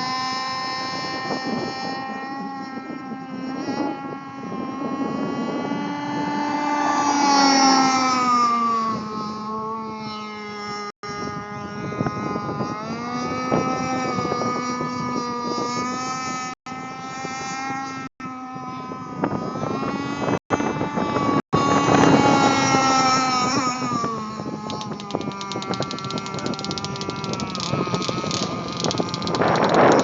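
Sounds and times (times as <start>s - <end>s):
model boat motor whine: 0.0s - 30.0s.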